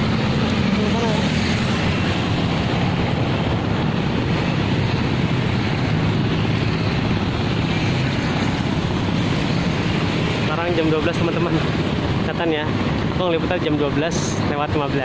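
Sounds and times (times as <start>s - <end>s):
engine hum: 0.0s - 14.8s
motorcycles and cars passing: 0.0s - 15.0s
wind buffeting microphone: 0.0s - 15.0s.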